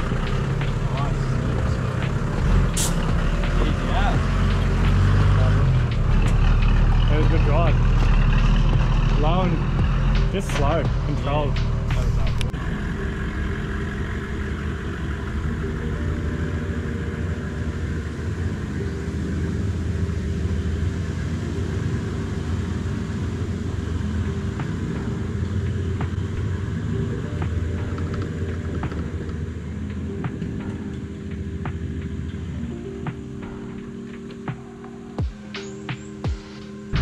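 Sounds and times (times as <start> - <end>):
engine running at low revs: 0.0 - 35.5, 36.1 - 37.0.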